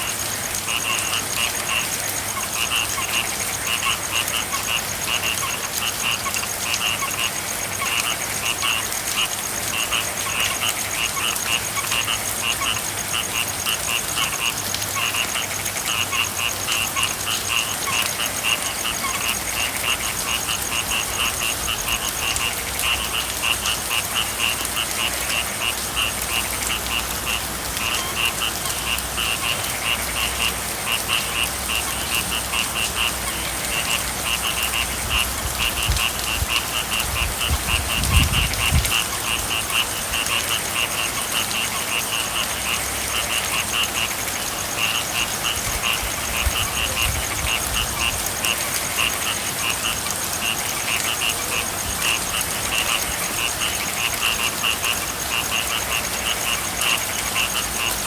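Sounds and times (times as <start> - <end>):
frogs croaking: 0.0 - 58.0
rain hiss: 0.0 - 58.0.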